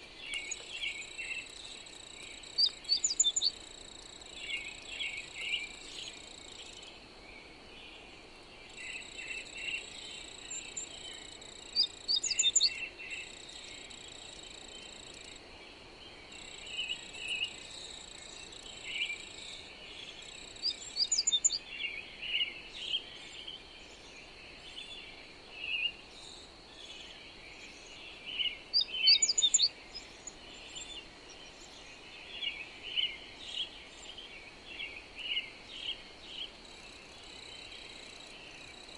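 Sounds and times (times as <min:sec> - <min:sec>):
small birds chirping: 0:00.0 - 0:38.9
soft wind hiss: 0:00.0 - 0:38.9.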